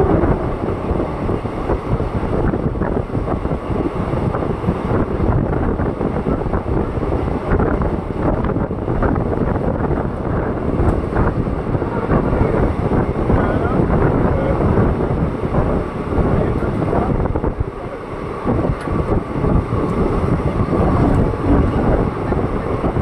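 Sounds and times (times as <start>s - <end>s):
train wheels rumbling on track: 0.0s - 23.0s
wind buffeting microphone: 0.0s - 23.0s.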